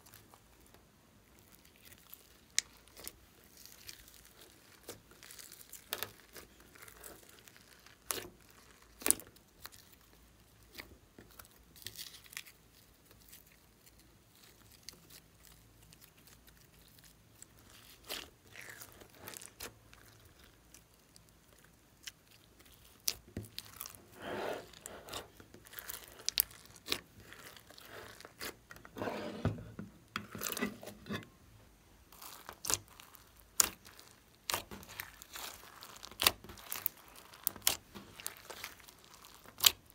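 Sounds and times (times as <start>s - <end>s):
slime squelches: 0.0s - 31.4s, 32.0s - 39.9s
hands squishing slime: 1.4s - 28.9s, 32.0s - 39.9s.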